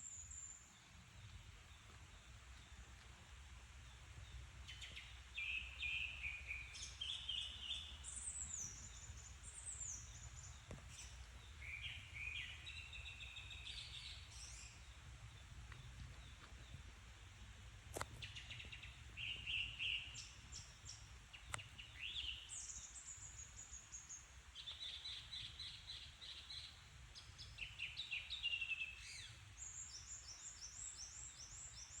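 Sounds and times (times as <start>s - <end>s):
songbirds singing and chirping: 0.0s - 32.0s.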